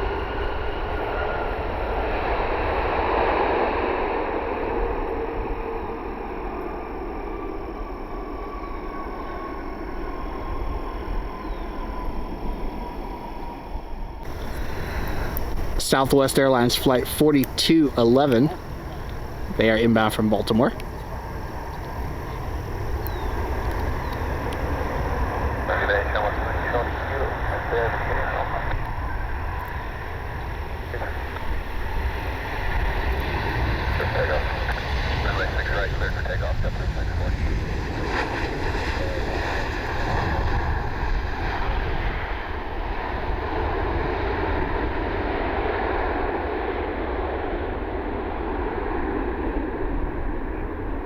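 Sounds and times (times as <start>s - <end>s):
jet engines rumbling and whining: 0.0s - 51.0s
wind buffeting microphone: 0.0s - 51.0s.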